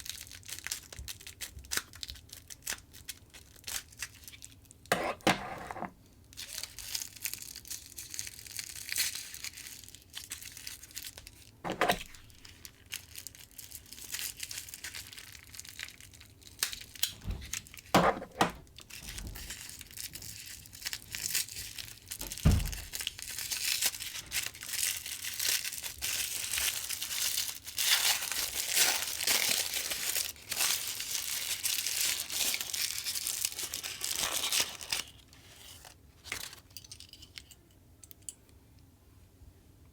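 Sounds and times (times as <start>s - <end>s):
packaging crinkling and tearing: 0.0s - 4.8s, 6.3s - 17.9s, 18.6s - 37.0s.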